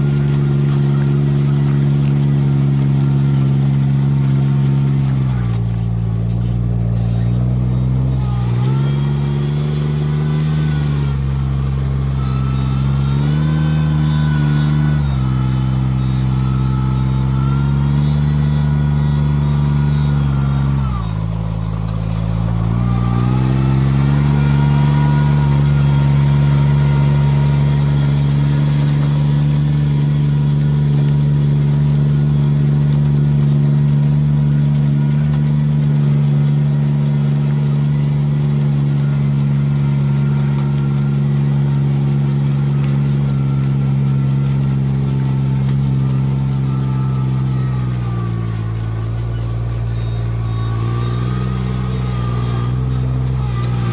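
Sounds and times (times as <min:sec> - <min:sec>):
farm machine engine running: 0:00.0 - 0:53.9.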